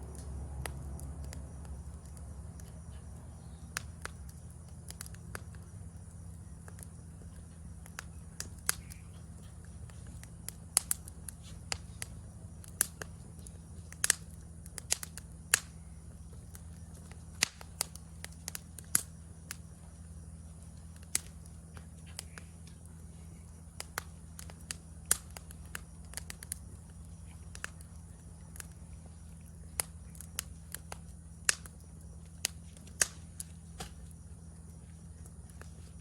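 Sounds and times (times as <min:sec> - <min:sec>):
campfire crackling: 0:00.0 - 0:36.0
low hum: 0:00.0 - 0:36.0.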